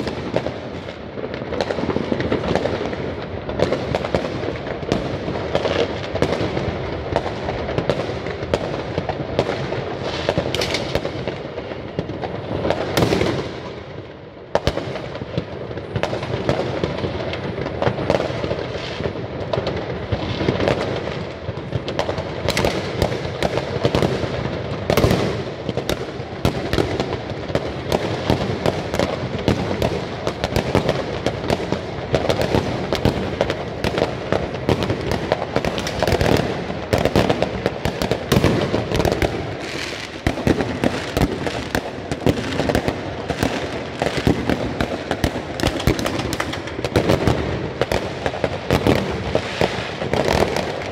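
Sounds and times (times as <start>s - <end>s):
fireworks banging and crackling: 0.0s - 50.9s.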